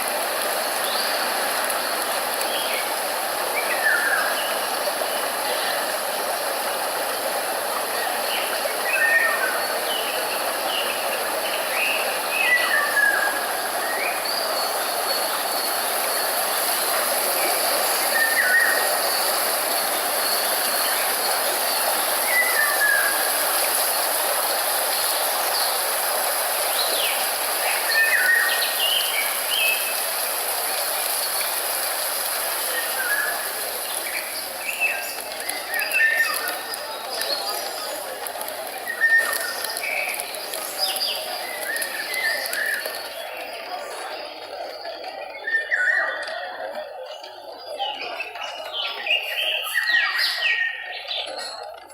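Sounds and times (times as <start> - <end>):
high hiss: 0.0 - 44.7.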